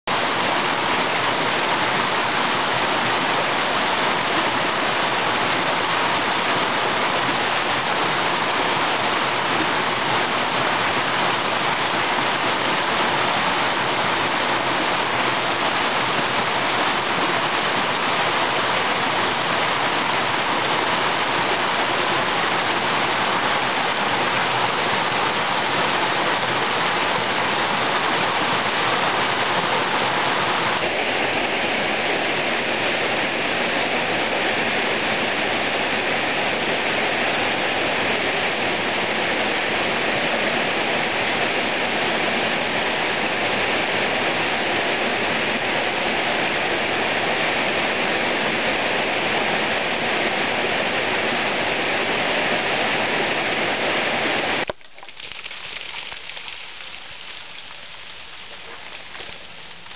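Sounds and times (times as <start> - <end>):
creek water cascading over rocks: 0.1 - 59.9.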